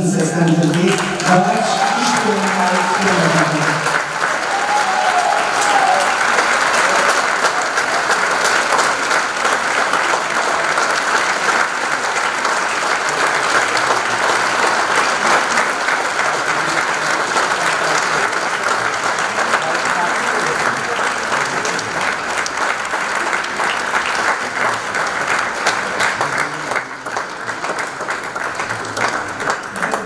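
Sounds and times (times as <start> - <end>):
audience applauding: 0.0 - 30.0.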